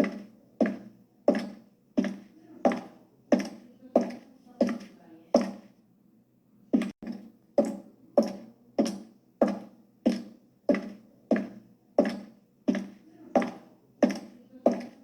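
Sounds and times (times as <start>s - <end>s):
high heels clicking on hard floor: 0.0s - 5.7s, 6.8s - 15.0s.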